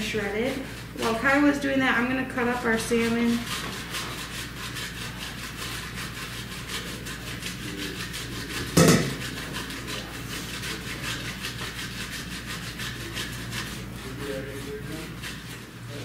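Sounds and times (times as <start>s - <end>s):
grater scraping vegetables: 0.0s - 16.0s.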